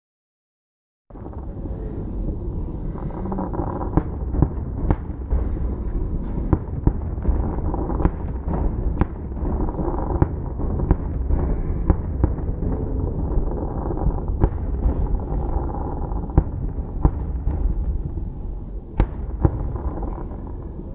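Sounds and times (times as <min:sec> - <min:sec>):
continuous low rumble: 0:01.1 - 0:20.9
fireworks bangs: 0:01.2 - 0:20.9.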